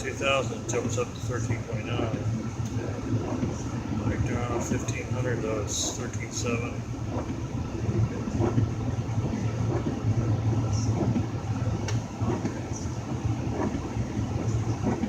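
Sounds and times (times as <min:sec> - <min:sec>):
blower fans running: 0:00.0 - 0:15.0.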